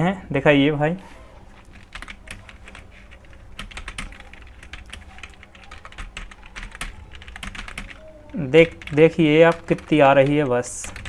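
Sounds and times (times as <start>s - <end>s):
typing on computer keyboard: 1.6s - 11.0s.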